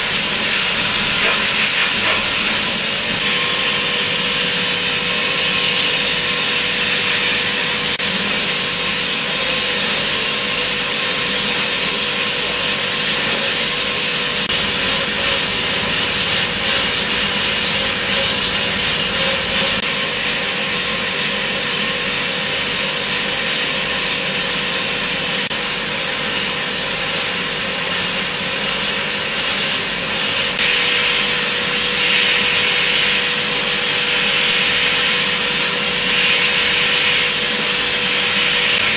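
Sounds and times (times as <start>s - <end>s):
hiss of metal cutting: 0.0s - 20.0s, 25.3s - 38.9s.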